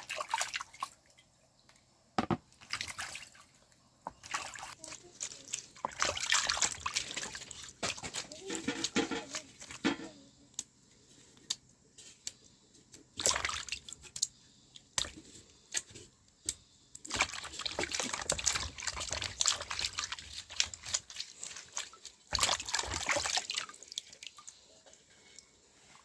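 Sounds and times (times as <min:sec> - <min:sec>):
water sloshing and trickling: 0:00.0 - 0:26.0.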